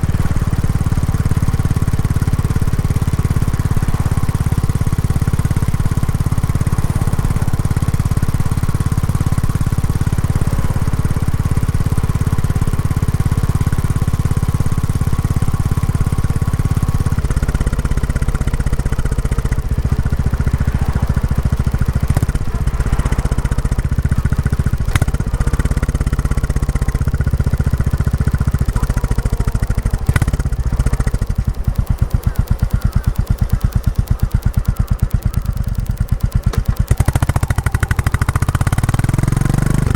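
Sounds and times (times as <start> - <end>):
sharp clicks: 0.0 - 39.9
single-cylinder motorcycle engine: 0.0 - 39.9.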